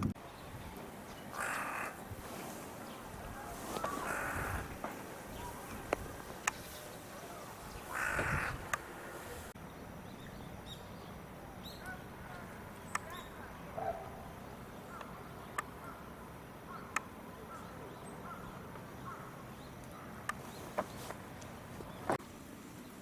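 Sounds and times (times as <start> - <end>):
harsh bird calls: 0.2 - 22.2.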